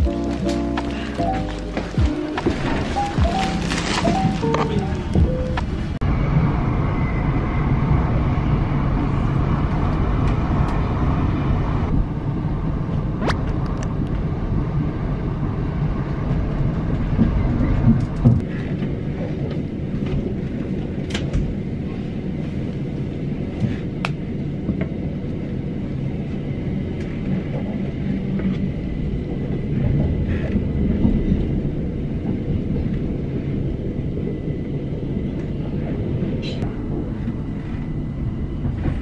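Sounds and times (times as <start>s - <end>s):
train rumbling along track: 0.0s - 39.0s.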